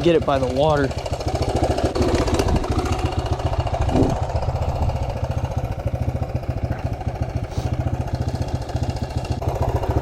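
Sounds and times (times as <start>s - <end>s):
dirt bike engine idling: 0.0s - 10.0s.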